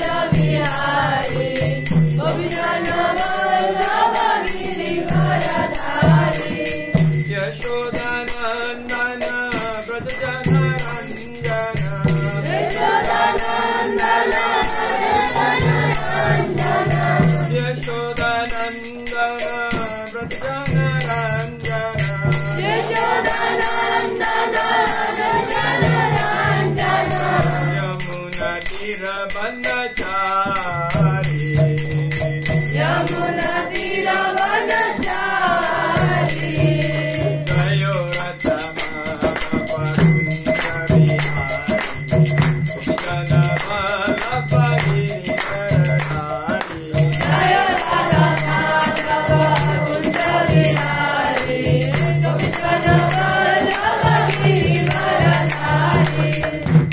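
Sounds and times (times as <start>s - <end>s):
man singing a chant: 0.0s - 56.9s
small hand cymbals: 0.0s - 56.9s.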